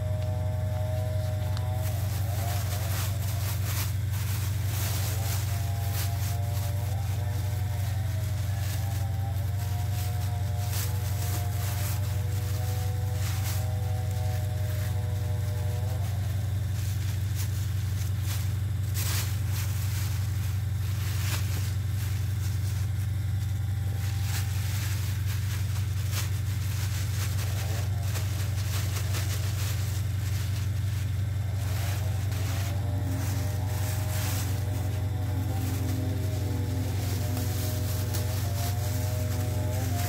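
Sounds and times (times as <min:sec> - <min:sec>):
plastic bags crinkling: 0:00.0 - 0:40.0
steady low hum: 0:00.0 - 0:40.0.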